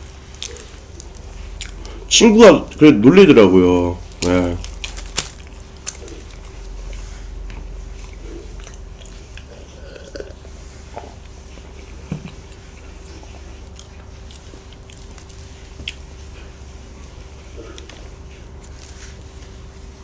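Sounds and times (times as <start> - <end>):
chewing and biting bread: 0.0 - 2.1, 4.0 - 20.0.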